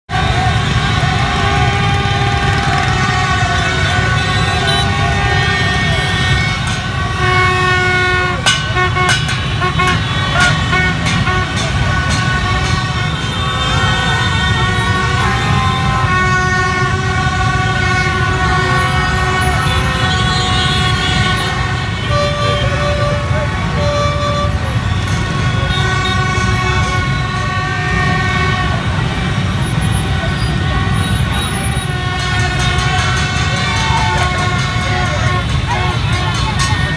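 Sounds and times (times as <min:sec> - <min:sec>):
horns tooting: 0:00.0 - 0:36.9
motorbike engines rumbling: 0:00.1 - 0:36.9.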